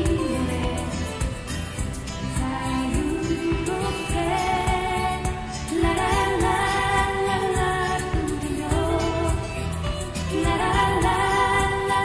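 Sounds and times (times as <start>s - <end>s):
pop song with woman singing: 0.0s - 12.0s.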